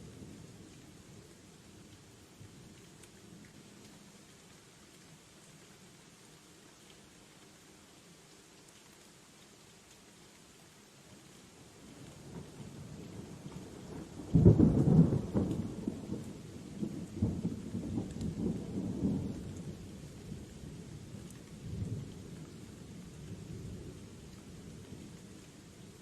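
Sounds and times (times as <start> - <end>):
rain hiss: 0.0 - 26.0.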